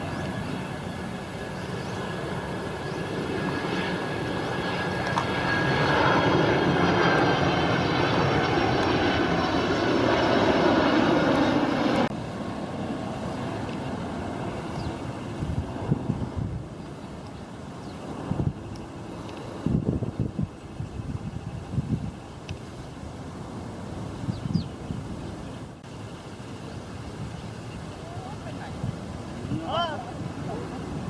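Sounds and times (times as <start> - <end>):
jet airliner passing overhead: 0.0 - 31.0.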